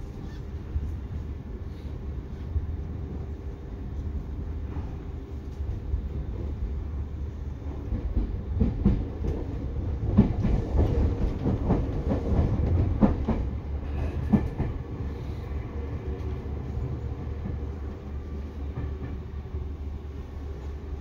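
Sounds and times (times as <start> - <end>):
train rumble from inside: 0.0 - 21.0.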